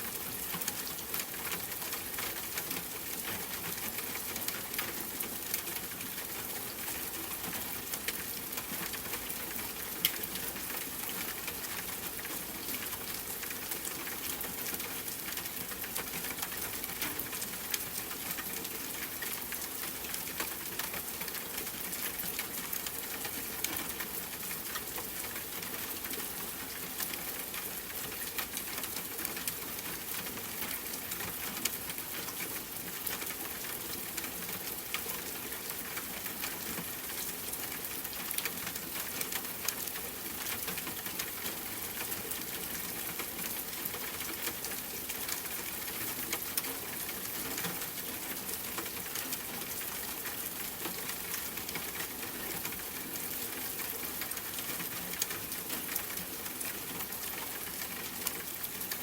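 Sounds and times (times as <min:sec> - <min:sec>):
rain patter on a surface: 0:00.0 - 0:59.0.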